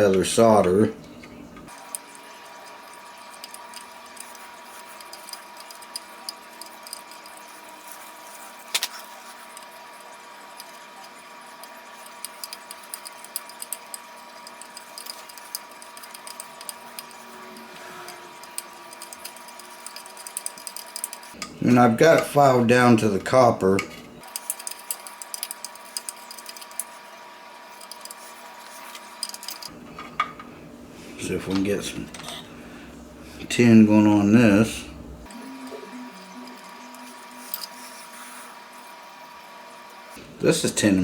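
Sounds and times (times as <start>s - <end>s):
faint steady whine: 0.0s - 41.0s.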